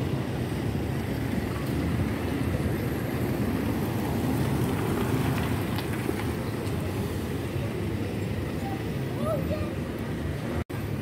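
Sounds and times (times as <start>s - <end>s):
traffic on a wet street: 0.0s - 11.0s.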